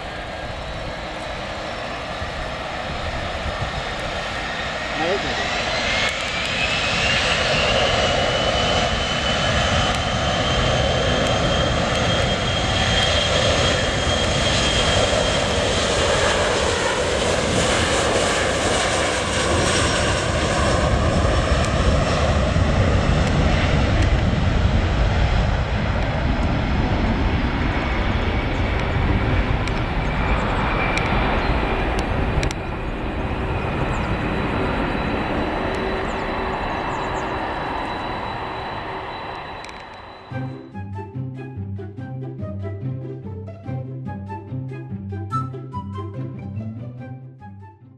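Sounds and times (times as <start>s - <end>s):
continuous jet noise: 0.0s - 45.5s
jet engines whining: 0.0s - 46.5s.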